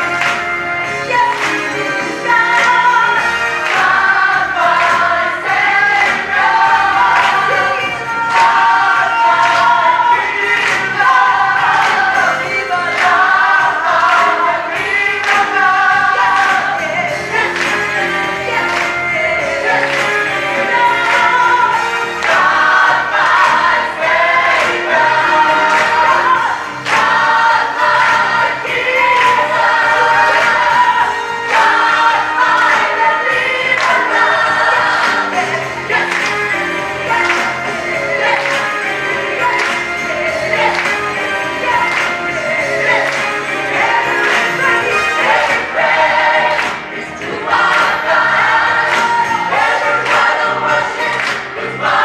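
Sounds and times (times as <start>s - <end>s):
gospel choir singing: 0.0s - 52.0s.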